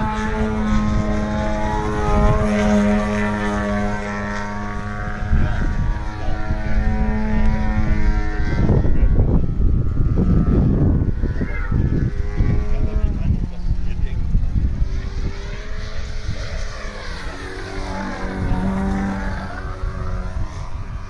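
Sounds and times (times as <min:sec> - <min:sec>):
model airplane engine droning: 0:00.0 - 0:21.0
rough noisy rush: 0:00.0 - 0:21.0.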